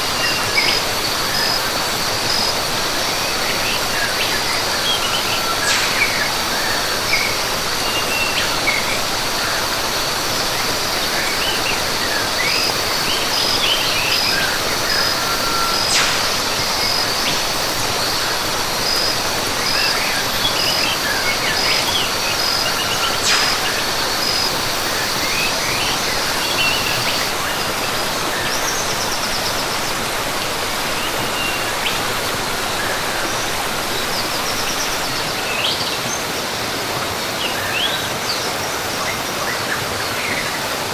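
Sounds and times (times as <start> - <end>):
rushing water: 0.0 - 40.9
high insect trill: 0.1 - 35.3
birds chirping: 0.1 - 35.9.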